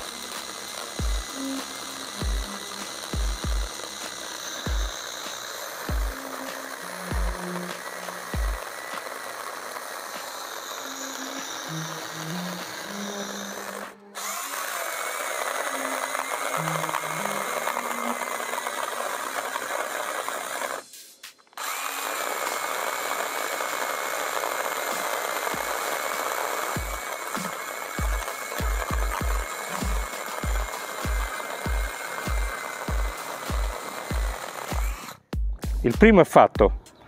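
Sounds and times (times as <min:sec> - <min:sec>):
chain rasping into wood: 0:00.0 - 0:20.8, 0:21.6 - 0:35.2
chainsaw motor whine: 0:00.0 - 0:20.9, 0:21.5 - 0:35.3.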